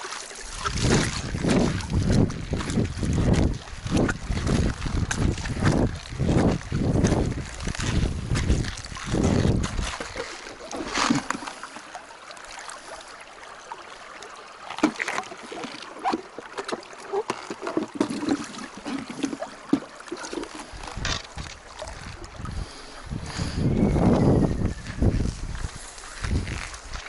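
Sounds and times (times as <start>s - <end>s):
small water splashes: 0.0s - 27.0s
stream water over stones: 0.0s - 27.0s.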